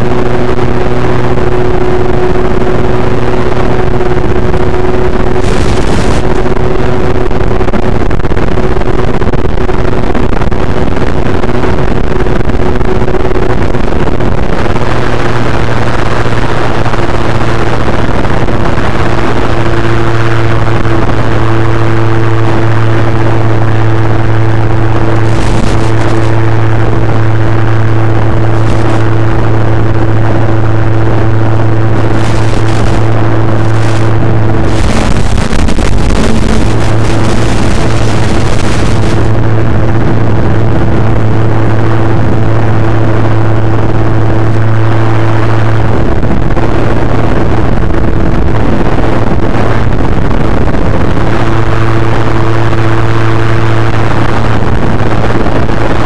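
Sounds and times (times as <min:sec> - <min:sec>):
electric motor and propeller drone: 0:00.0 - 0:56.0
radio static: 0:00.0 - 0:56.0.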